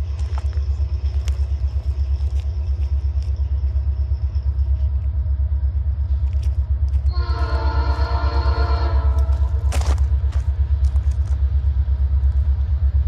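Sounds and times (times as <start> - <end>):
diesel locomotive pulsing rumble: 0.0 - 13.0.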